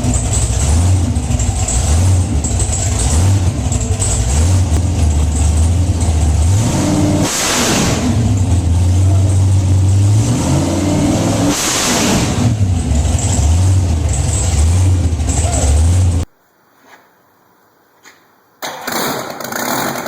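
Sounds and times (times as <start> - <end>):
large engine idling and revving: 0.0 - 16.3.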